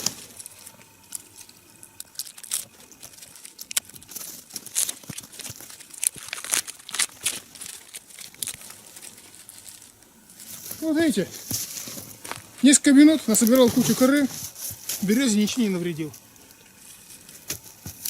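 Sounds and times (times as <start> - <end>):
bark crackling and tearing: 0.0 - 18.0.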